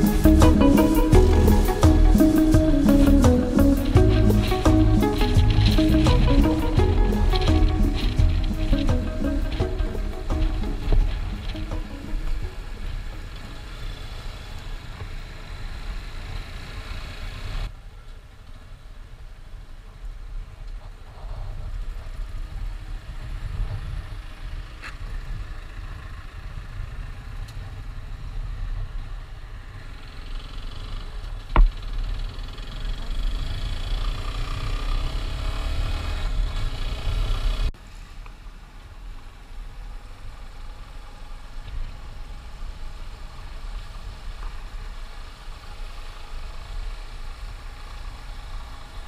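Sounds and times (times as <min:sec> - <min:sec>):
motorcycle engine running: 0:00.0 - 0:17.7, 0:21.5 - 0:37.7, 0:39.8 - 0:49.0
road and wind noise: 0:00.0 - 0:49.0.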